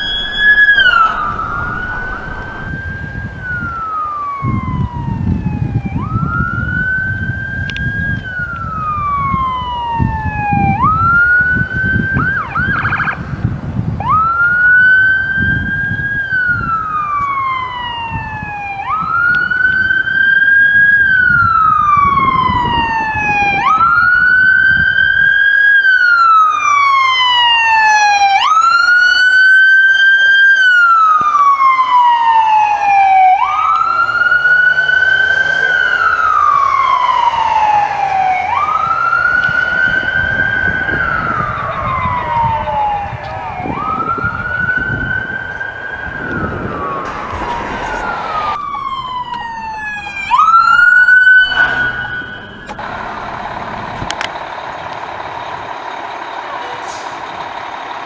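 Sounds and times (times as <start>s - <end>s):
ambulance siren wailing: 0.0s - 57.9s.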